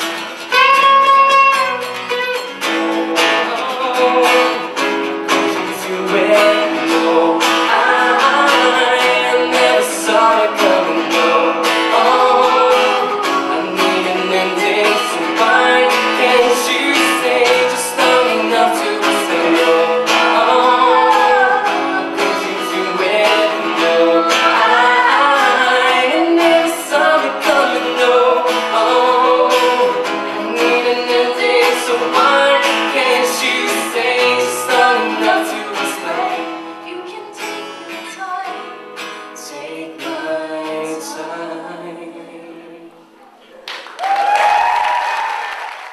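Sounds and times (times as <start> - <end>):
strummed acoustic guitar: 0.0 - 43.4
person singing: 2.4 - 43.6.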